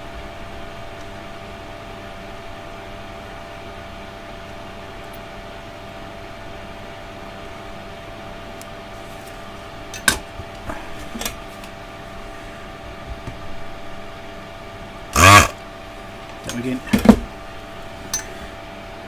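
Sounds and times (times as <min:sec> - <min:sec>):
bench fan humming: 0:00.0 - 0:19.0.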